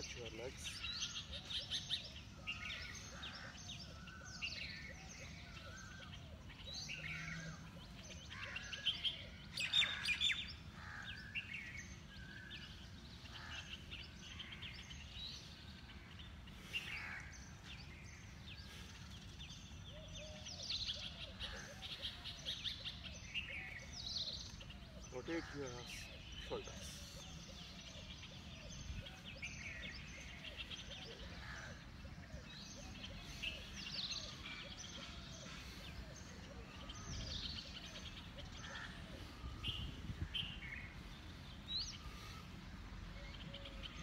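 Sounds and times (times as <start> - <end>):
birds chirping and trilling: 0.0 - 44.0.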